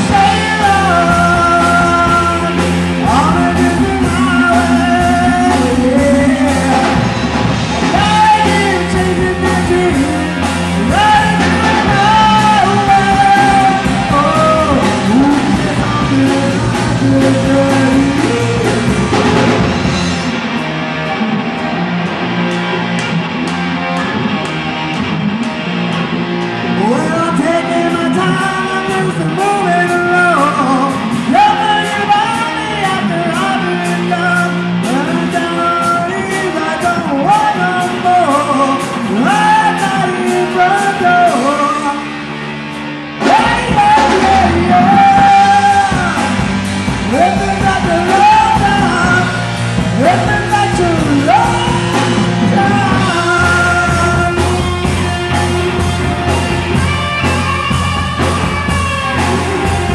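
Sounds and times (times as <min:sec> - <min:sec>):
male singer: 0:00.0 - 0:20.0, 0:26.7 - 0:42.2, 0:43.2 - 0:59.9
rock band playing: 0:00.0 - 0:59.9.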